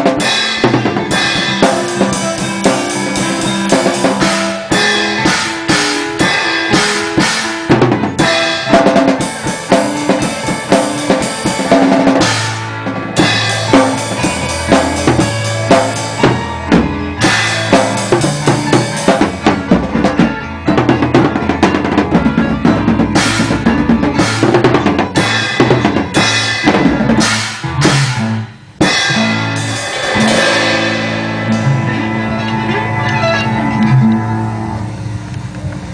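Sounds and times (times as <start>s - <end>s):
drum kit playing: 0.0s - 35.2s
bass line: 0.0s - 35.9s.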